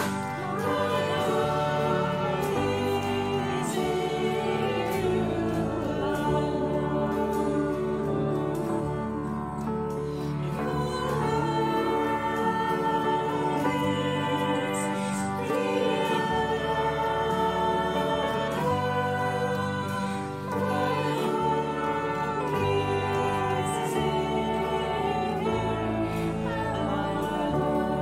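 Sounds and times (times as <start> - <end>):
acoustic guitars: 0.0 - 28.0
piano: 0.0 - 28.0
voices singing together: 0.0 - 28.0.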